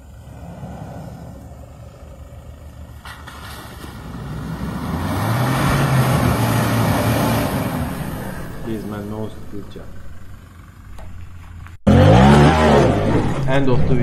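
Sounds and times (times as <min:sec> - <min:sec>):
pickup truck engine: 0:00.0 - 0:14.0.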